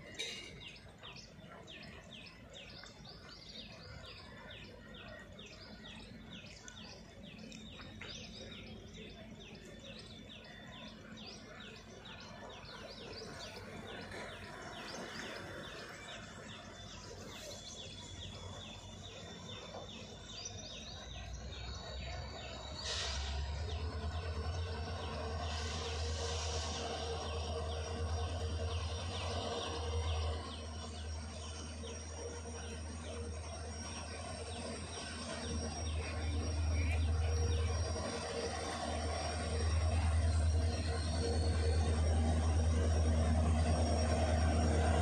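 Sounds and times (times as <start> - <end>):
birds chirping: 0.0 - 45.0
diesel locomotive engine hum: 0.0 - 45.0
steady whine: 0.0 - 45.0.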